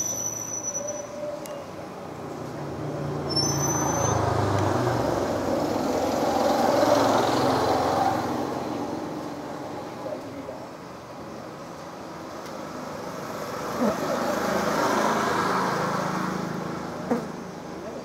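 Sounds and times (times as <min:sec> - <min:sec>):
vehicles passing close: 0:00.0 - 0:18.0.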